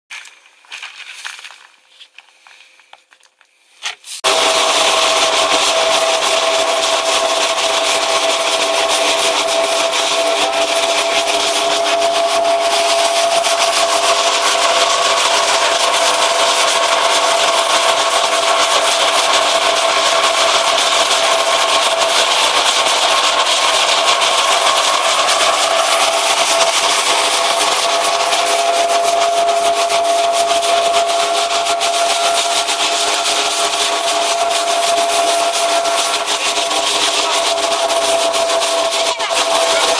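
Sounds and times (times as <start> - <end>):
rushing rattle of nuts in hose: 4.2 - 39.9
thresher machine hum: 4.2 - 39.9.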